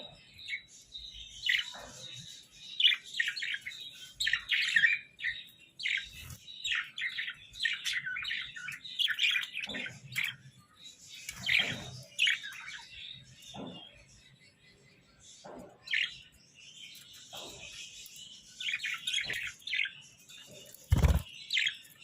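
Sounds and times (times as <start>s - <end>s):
budgerigars chattering and warbling: 0.0s - 22.0s.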